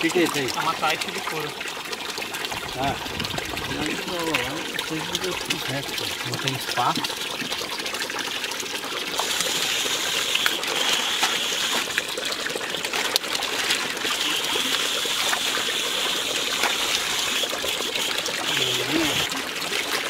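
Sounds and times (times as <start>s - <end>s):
hose water gushing into tank: 0.0s - 20.0s.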